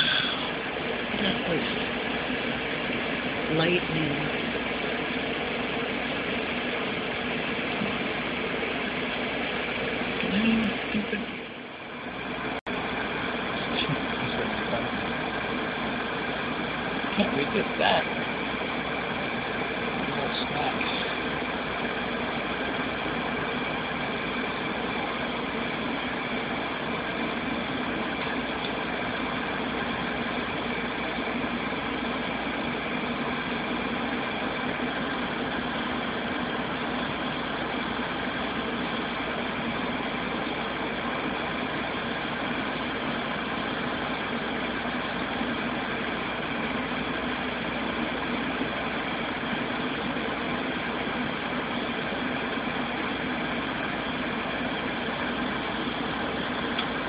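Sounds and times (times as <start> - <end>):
mechanical hum and hiss: 0.0 - 57.0.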